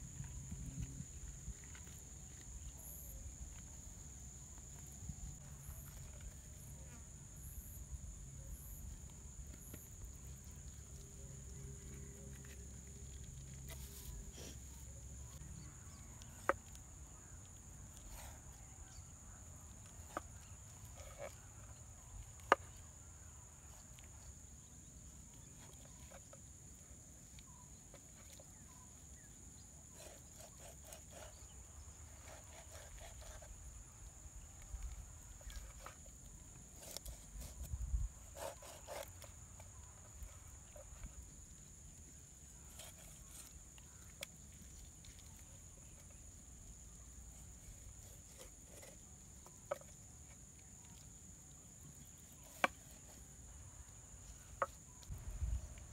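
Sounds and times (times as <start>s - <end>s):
faint outdoor ambience: 0.0s - 55.9s.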